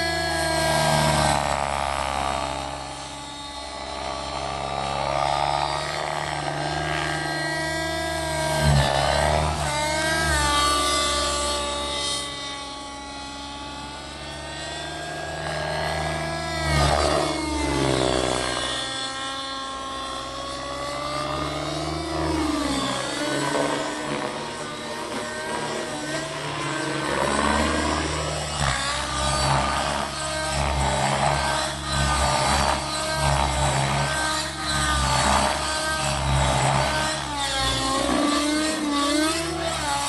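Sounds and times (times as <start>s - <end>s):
model helicopter engine and rotor: 0.0s - 40.0s.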